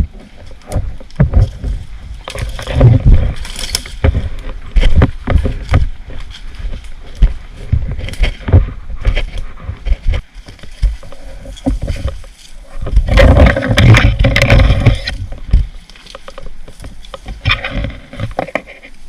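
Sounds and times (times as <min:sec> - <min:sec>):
low thumps: 0:00.0 - 0:18.5
rustling: 0:00.0 - 0:19.0.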